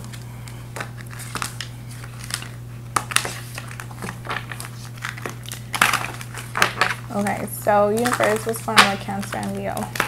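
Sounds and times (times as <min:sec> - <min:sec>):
cards being shuffled: 0:00.0 - 0:10.0
steady low hum: 0:00.0 - 0:10.0.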